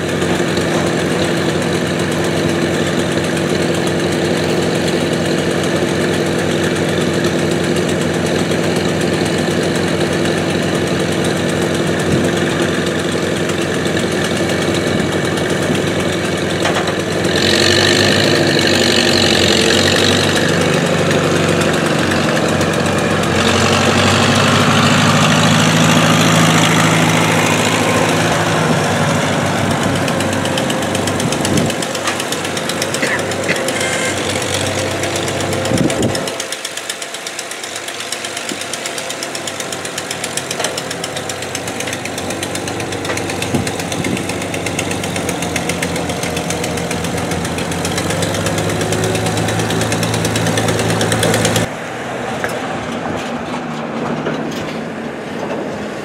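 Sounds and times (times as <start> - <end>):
tractor engine running slowly: 0.0 - 56.0.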